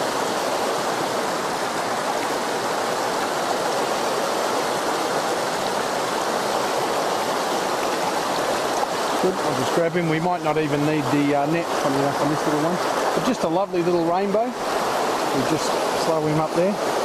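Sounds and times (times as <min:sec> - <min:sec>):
river water flowing over rocks: 0:00.0 - 0:17.0.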